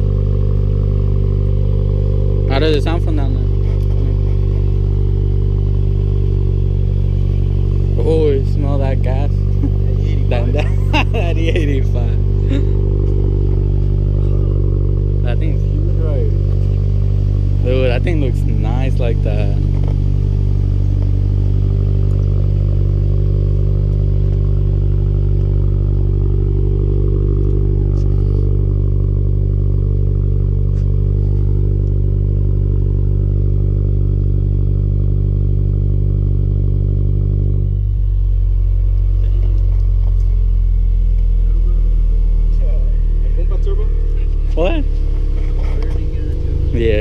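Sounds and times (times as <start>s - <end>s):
car engine idling through exhaust: 0.0s - 47.0s.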